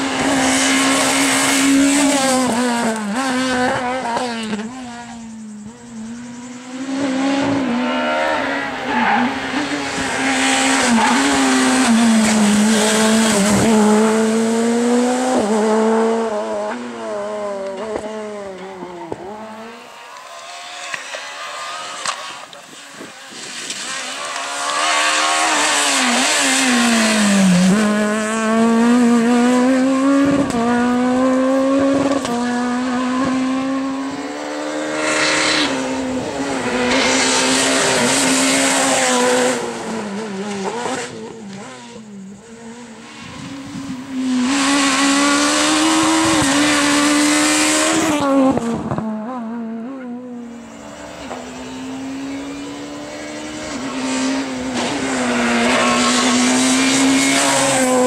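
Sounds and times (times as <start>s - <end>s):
rally car engines at high revs: 0.0s - 58.0s.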